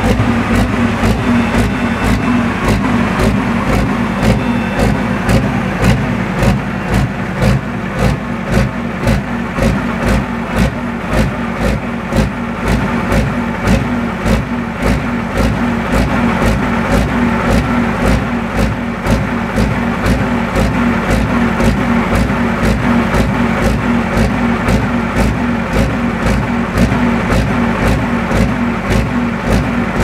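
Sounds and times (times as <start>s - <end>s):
diesel engine running pulsing: 0.0s - 30.0s.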